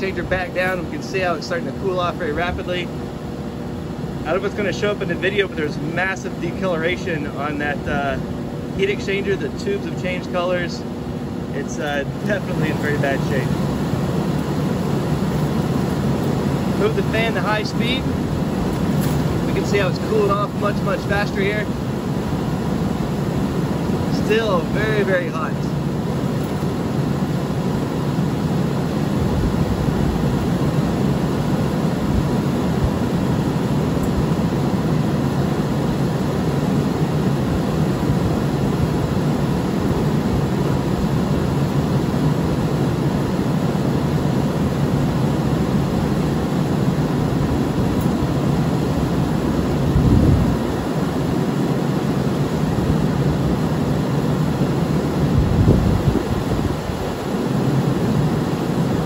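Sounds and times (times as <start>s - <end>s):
furnace blower fan running: 0.0s - 59.0s.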